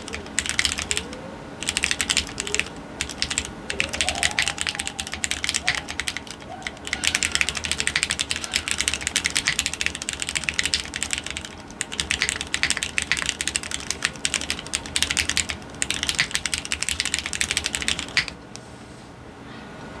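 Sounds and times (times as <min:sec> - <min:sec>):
fast typing on mechanical keyboard: 0:00.0 - 0:18.6.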